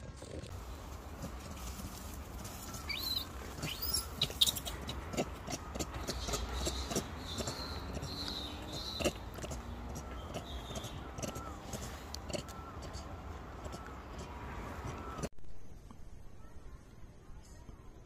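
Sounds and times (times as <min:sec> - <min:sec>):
macaques squeaking: 0:00.5 - 0:15.3.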